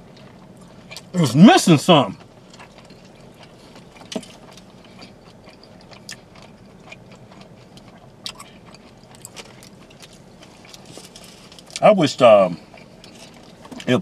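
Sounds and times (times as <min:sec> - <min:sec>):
people chewing: 0:02.1 - 0:14.0.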